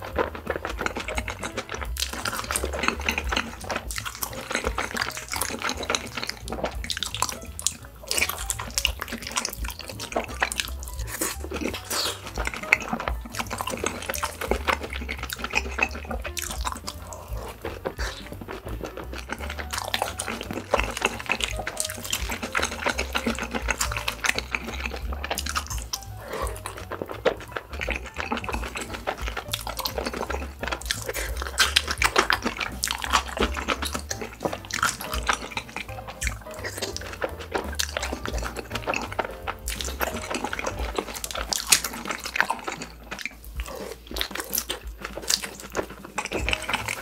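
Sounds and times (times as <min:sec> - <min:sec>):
faint background music: 0:00.0 - 0:47.0
wet sticky chewing: 0:00.0 - 0:47.0.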